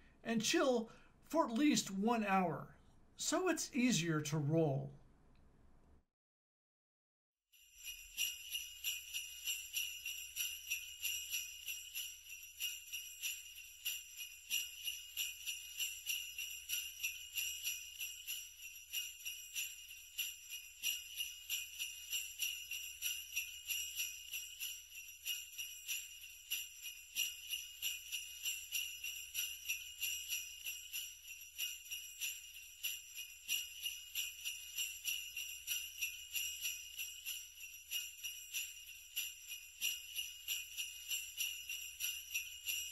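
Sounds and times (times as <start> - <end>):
sleigh bells jingling: 7.6 - 42.9.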